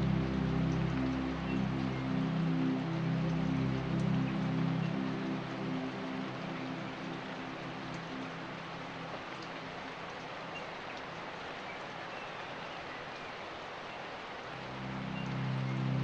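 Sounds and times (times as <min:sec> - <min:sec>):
soft background music: 0:00.0 - 0:16.0
steady rain: 0:00.0 - 0:16.0.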